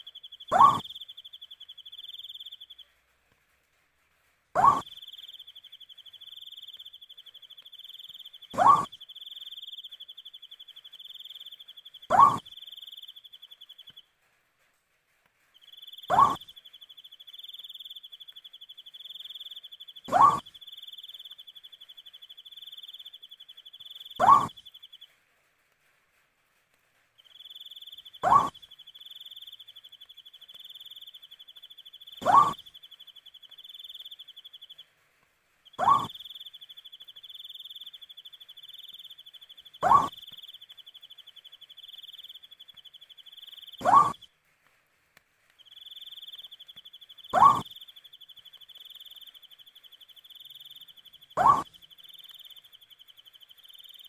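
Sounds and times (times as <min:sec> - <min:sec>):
owl calling: 0:00.0 - 0:02.8, 0:04.6 - 0:14.0, 0:15.7 - 0:25.0, 0:27.3 - 0:34.8, 0:35.7 - 0:44.3, 0:45.7 - 0:54.0.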